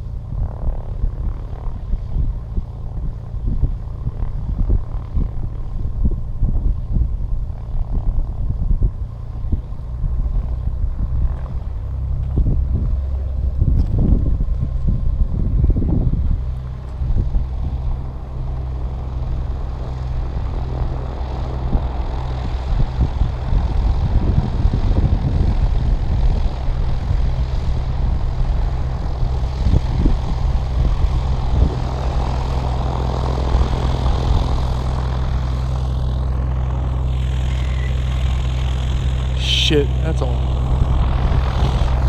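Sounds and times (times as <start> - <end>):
wind buffeting microphone: 0.0 - 39.4, 40.3 - 42.0
aircraft engine droning: 0.0 - 42.0.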